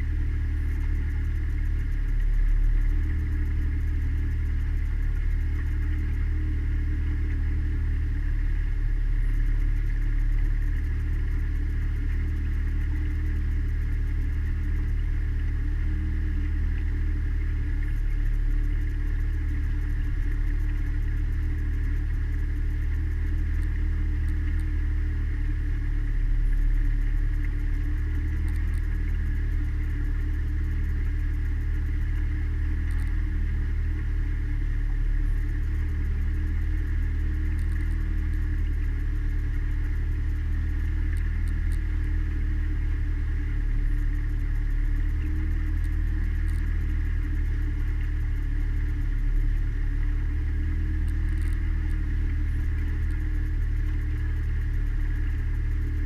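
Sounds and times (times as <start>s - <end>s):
outboard motor drone: 0.0s - 56.0s.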